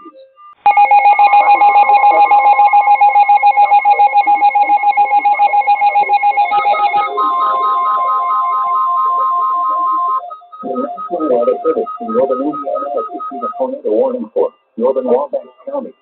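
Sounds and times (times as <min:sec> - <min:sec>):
electronic alert tone: 0:00.0 - 0:16.0.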